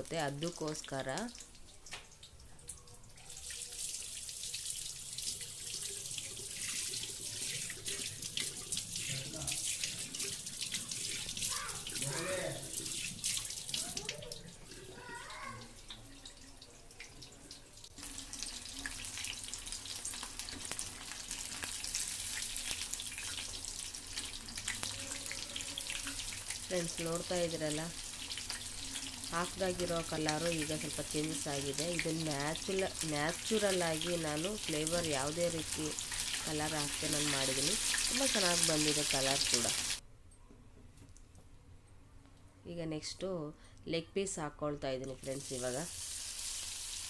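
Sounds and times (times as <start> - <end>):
food sizzling in hot oil: 3.3 - 40.0, 45.2 - 47.0.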